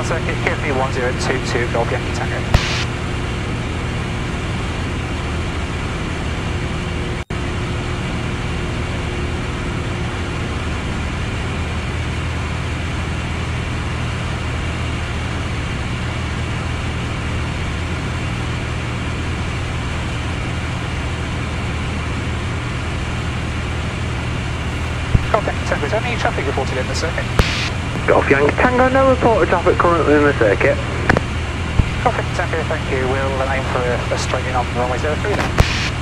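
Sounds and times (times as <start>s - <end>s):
propeller plane engine drone: 0.0s - 36.0s.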